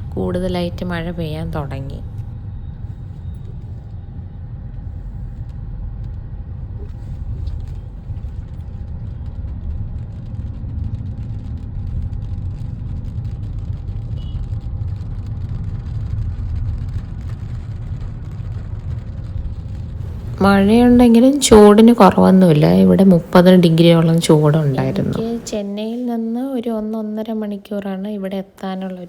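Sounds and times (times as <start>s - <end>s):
vehicle engine and tyres rumble: 0.0s - 26.9s.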